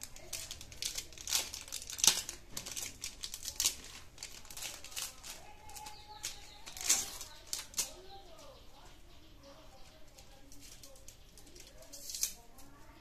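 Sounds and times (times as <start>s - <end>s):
wrapper crinkling and rustling: 0.0s - 8.6s, 9.6s - 13.0s.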